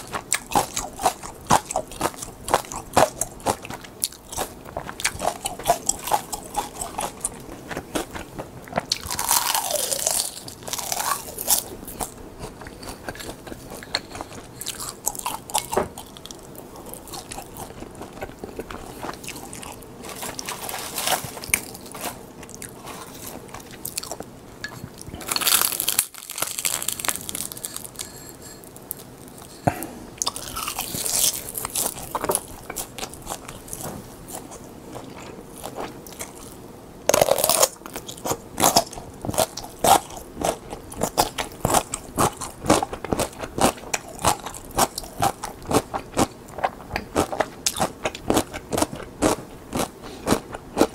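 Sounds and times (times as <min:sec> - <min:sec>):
crunching and chewing crisp sheets: 0:00.0 - 0:50.9.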